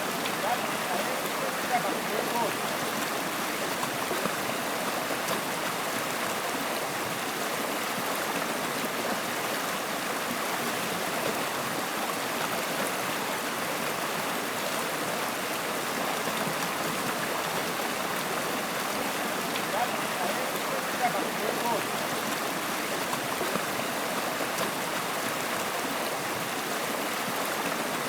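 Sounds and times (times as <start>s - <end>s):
running water: 0.0s - 28.0s.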